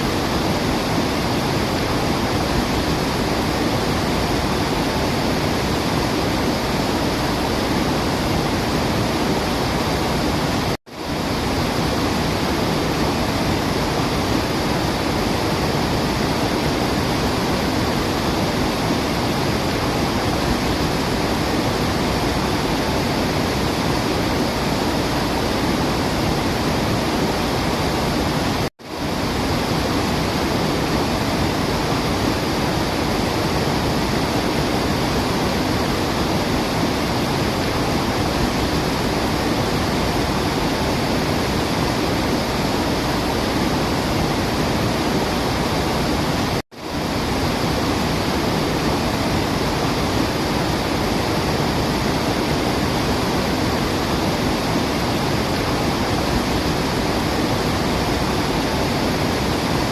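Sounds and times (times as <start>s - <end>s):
falling water rushing: 0.0s - 59.9s.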